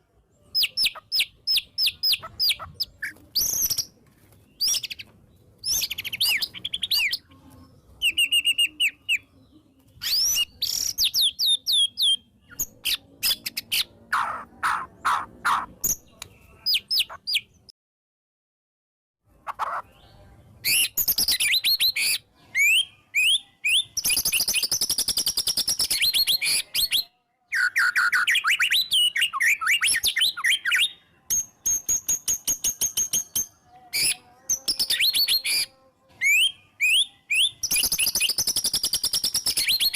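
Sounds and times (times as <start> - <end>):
bird singing varied song: 0.0 - 17.7, 19.3 - 39.9.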